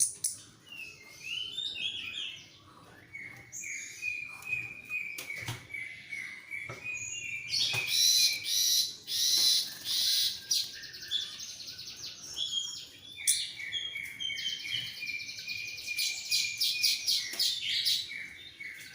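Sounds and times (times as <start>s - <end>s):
bird singing: 0.0s - 18.9s.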